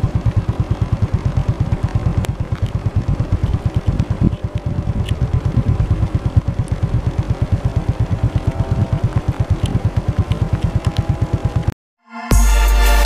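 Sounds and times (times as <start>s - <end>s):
vehicle engine running: 0.0s - 11.8s.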